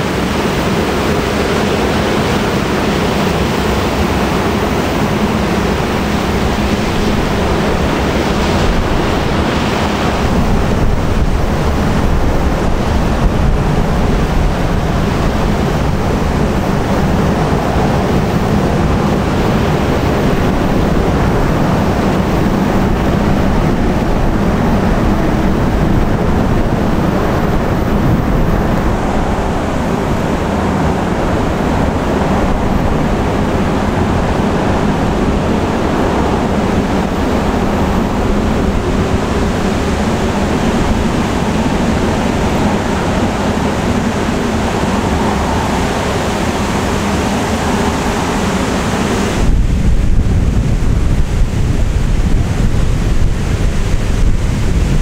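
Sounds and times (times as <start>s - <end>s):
ship engine drone: 0.0s - 55.0s
water washing: 0.0s - 55.0s
wind buffeting microphone: 0.0s - 55.0s.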